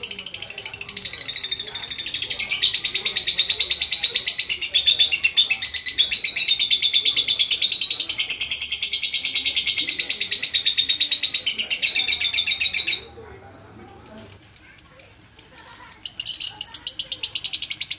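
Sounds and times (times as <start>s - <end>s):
lovebird chattering song: 0.0s - 13.1s, 14.0s - 17.9s.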